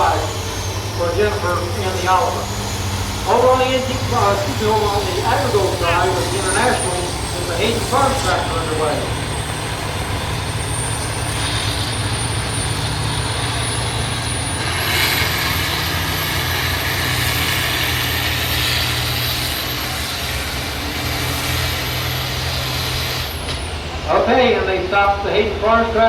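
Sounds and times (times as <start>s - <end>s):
tractor engine under load: 0.0s - 25.8s.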